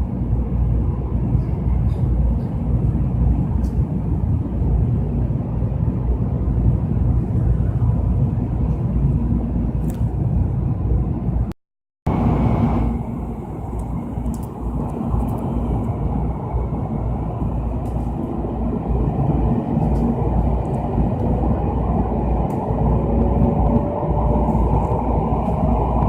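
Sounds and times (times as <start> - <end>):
train rumble inside carriage: 0.0 - 11.5, 12.1 - 26.0.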